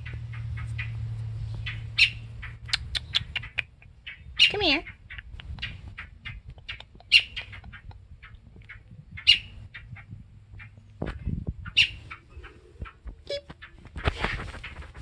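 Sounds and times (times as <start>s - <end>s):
fledgling bird chirping and squawking: 0.0s - 15.0s.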